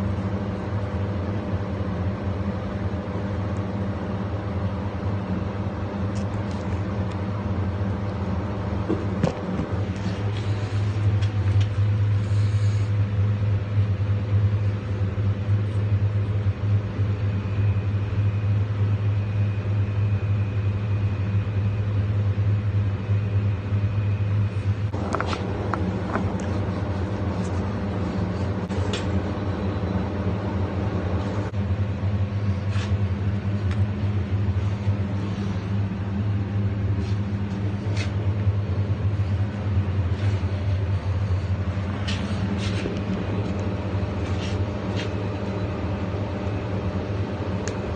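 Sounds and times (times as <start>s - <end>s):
low mechanical hum: 0.0s - 47.9s.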